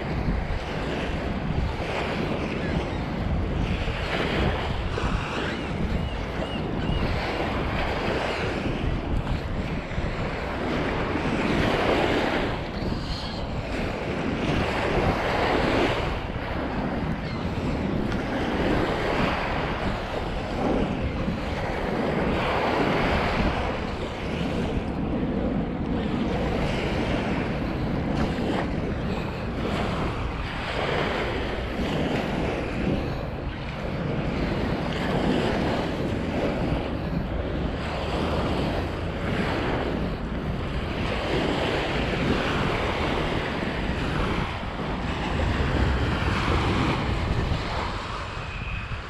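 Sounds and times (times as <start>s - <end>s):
waves washing onto beach: 0.0s - 49.0s
wind buffeting microphone: 0.0s - 49.0s.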